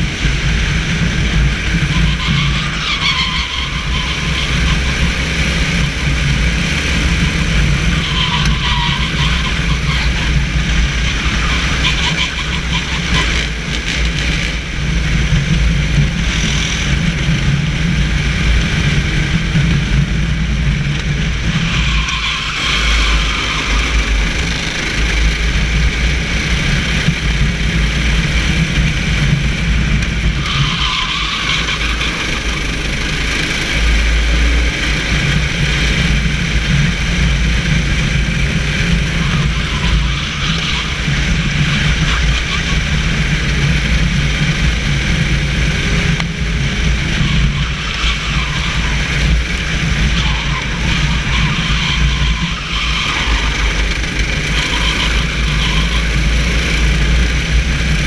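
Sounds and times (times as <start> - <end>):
kart engine running: 0.0 - 58.0
wind noise on microphone: 0.0 - 58.0.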